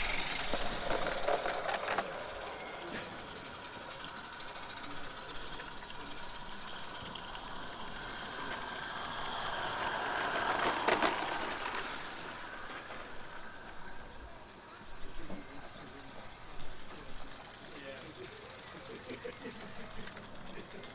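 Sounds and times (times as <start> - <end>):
model steam train clattering: 0.0 - 20.9
sharp rattle: 0.0 - 20.9.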